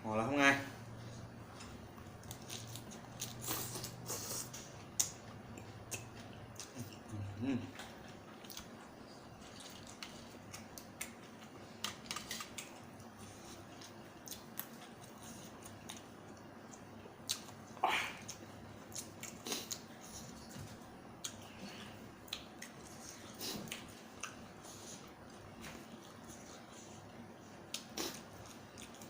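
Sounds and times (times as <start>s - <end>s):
chewing: 1.5s - 29.0s.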